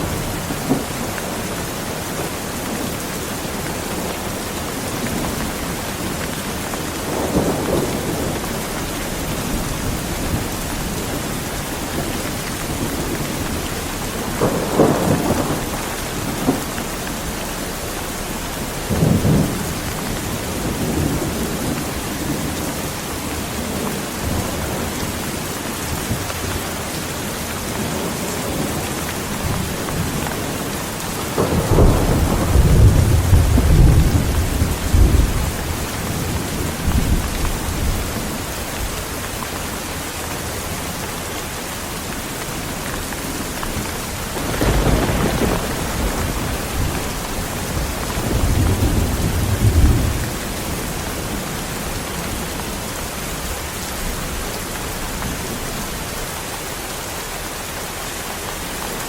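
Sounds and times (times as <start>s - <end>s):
heavy rain falling: 0.0s - 59.0s
thunder rumbling: 3.5s - 26.8s, 27.4s - 39.4s, 42.6s - 56.1s.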